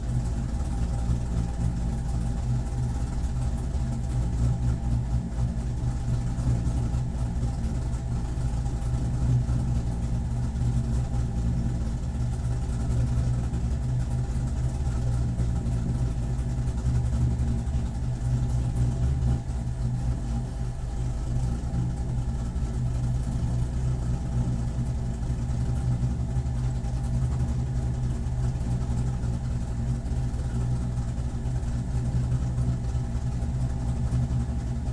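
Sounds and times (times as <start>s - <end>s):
race car engine idling: 0.0s - 34.9s.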